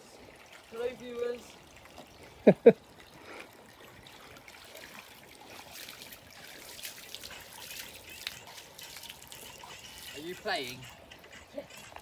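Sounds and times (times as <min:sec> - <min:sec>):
water trickling into pool: 0:00.0 - 0:12.0.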